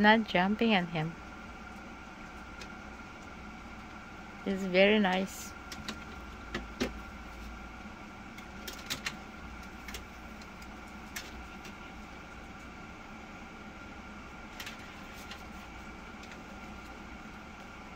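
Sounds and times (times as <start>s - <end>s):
machine hum: 0.0s - 17.9s.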